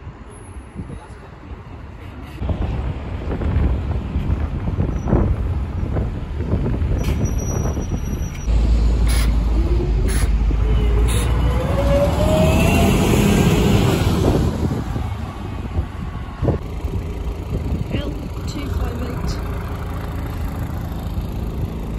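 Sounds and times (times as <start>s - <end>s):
bus engine whining: 2.2s - 21.9s.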